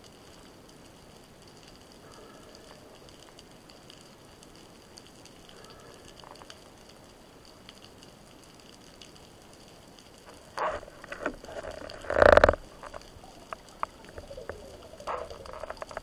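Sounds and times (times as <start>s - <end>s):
fine crackle of clicks: 0.0s - 16.0s.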